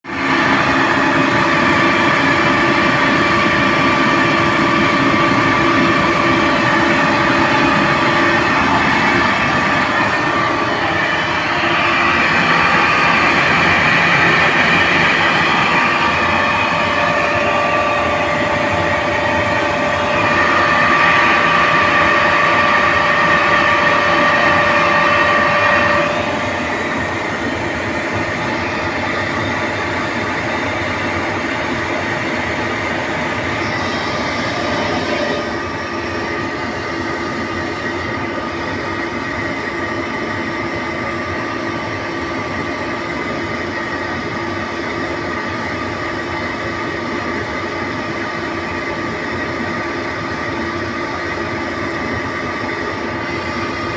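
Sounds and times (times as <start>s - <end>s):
air compressor whining: 0.1s - 53.9s.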